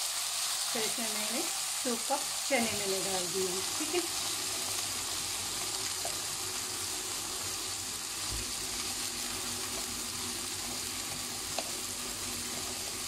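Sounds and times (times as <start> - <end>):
chickpeas sizzling in hot oil: 0.0 - 13.0.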